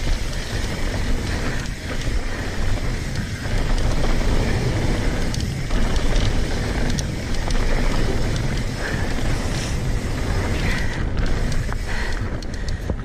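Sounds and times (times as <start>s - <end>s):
bike rattling over bumps: 0.0s - 13.0s
tyres rolling over dirt: 0.0s - 13.0s
wind buffeting microphone: 0.0s - 13.0s.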